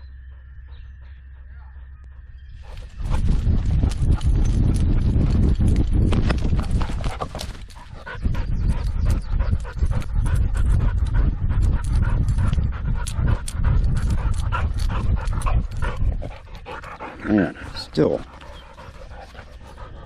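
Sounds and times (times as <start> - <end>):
dog panting: 2.6 - 20.0.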